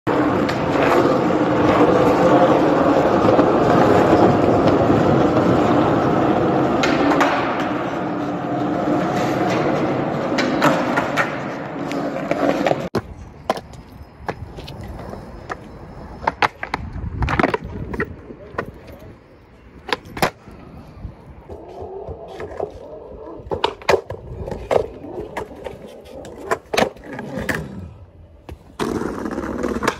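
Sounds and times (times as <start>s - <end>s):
skateboard clacks: 0.1s - 19.2s, 19.8s - 20.5s, 21.4s - 27.7s, 28.4s - 29.9s
skateboard wheels rolling on concrete: 0.1s - 29.9s.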